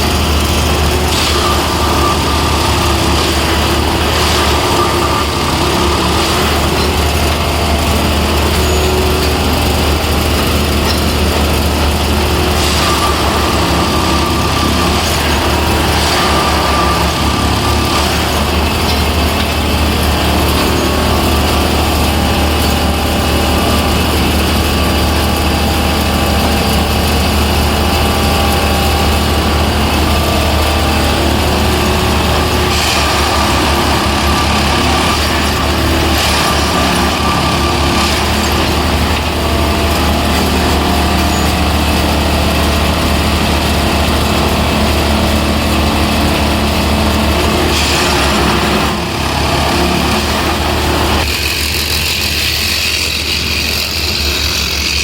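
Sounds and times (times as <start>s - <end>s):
track machine engine running: 0.0s - 55.0s.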